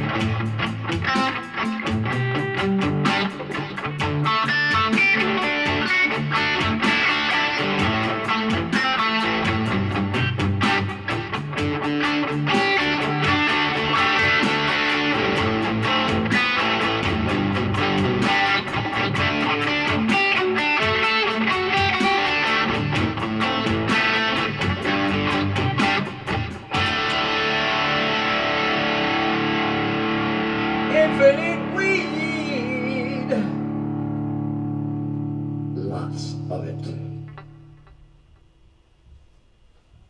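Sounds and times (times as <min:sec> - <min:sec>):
electric guitar playing rock: 0:00.0 - 0:38.4.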